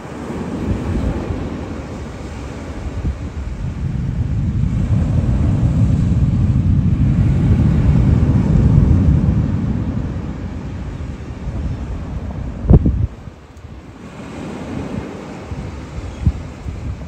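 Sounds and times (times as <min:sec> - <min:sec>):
distant low rocket engine rumble: 0:00.1 - 0:17.0.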